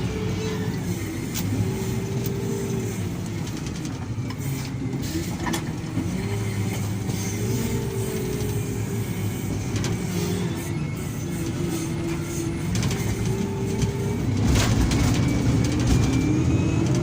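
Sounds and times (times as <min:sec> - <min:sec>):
heavy machinery diesel engines: 0:00.0 - 0:17.0.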